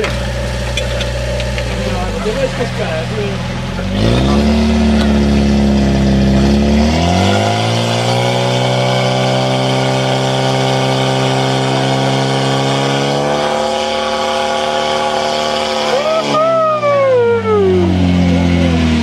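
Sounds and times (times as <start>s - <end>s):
fire pump engine revving: 0.0s - 19.0s.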